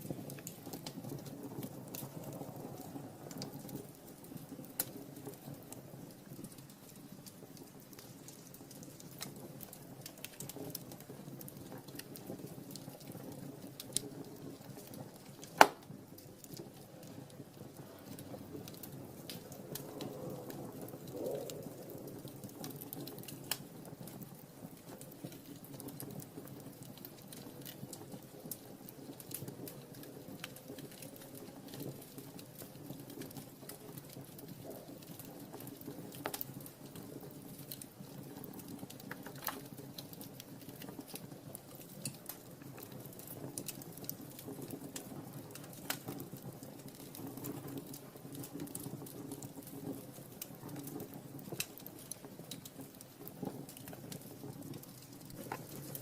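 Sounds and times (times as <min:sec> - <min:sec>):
low rush of flame: 0:00.0 - 0:56.0
wood fire crackling: 0:00.0 - 0:56.0.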